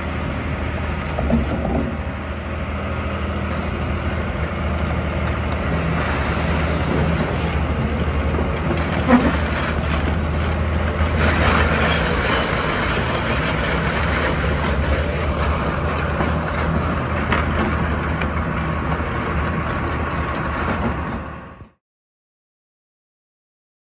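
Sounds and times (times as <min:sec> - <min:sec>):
excavator diesel engine running: 0:00.0 - 0:21.8.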